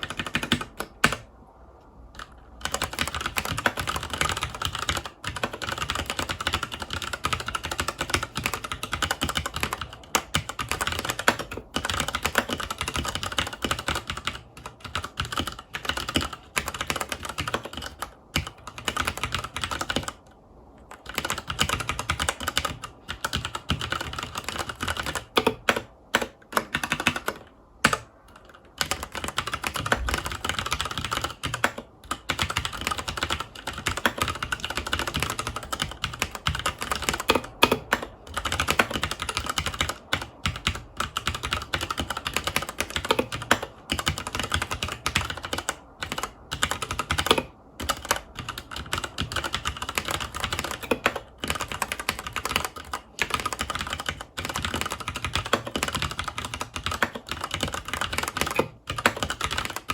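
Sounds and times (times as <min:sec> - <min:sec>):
mechanical keyboard typing: 0:00.0 - 0:01.3, 0:02.1 - 0:59.9.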